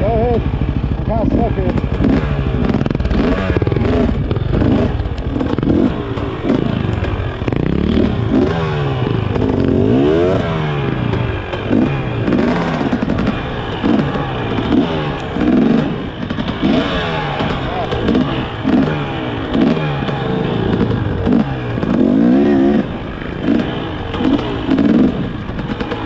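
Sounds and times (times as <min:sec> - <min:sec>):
clatter: 0:00.0 - 0:26.0
dirt bike engine revving: 0:00.0 - 0:26.0.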